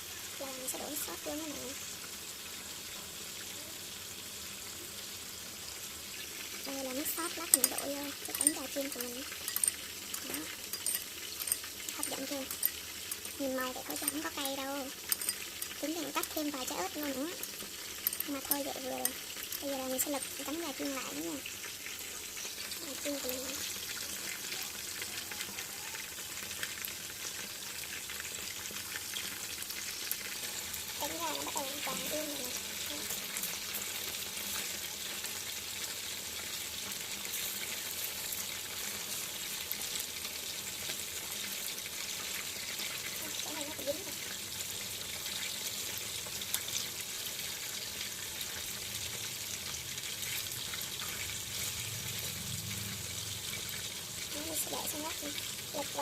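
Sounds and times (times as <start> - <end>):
chicken frying in hot oil: 0.0 - 56.0.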